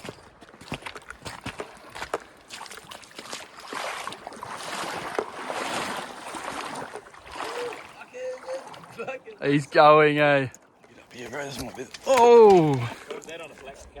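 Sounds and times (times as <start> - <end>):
river water splashing: 0.0 - 13.4.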